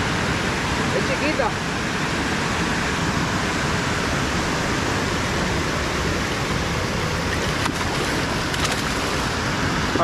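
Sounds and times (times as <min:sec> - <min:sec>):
water rushing below a dam: 0:00.0 - 0:10.0.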